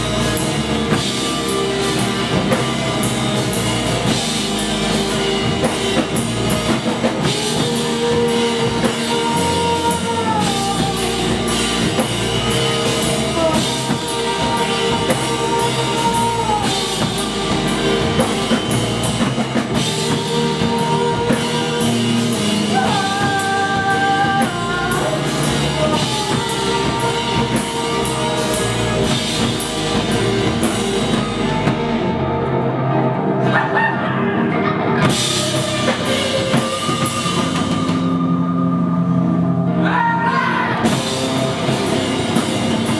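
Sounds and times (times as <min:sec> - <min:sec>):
rock band playing live: 0:00.0 - 0:42.9.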